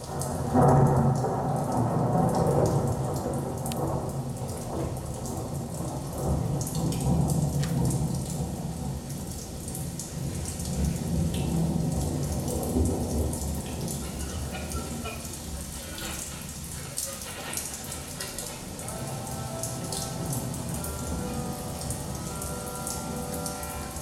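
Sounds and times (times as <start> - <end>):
rain patter: 0.0 - 24.0
low rolling thunder rumble: 0.1 - 16.7, 18.0 - 24.0.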